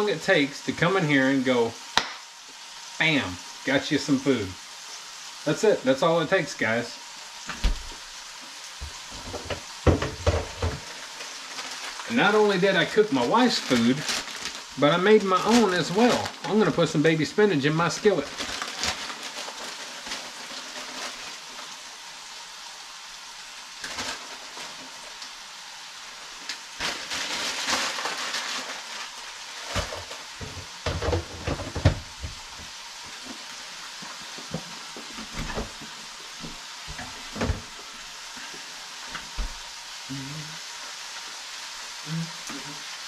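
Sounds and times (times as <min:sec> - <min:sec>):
food sizzling in skillets: 0:00.0 - 0:43.0.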